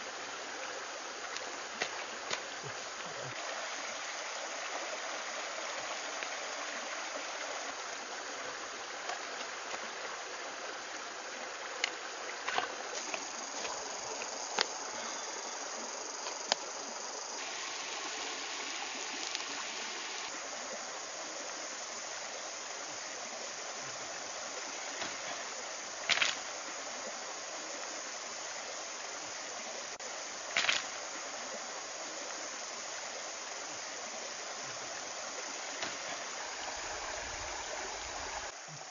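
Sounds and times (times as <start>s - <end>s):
rocky stream rushing: 0.0s - 38.9s.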